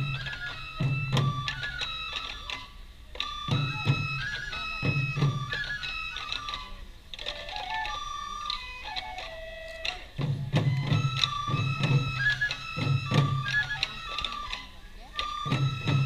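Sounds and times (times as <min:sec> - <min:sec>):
bamboo flute melody: 0:00.0 - 0:16.0
taiko drum beats: 0:00.0 - 0:16.0.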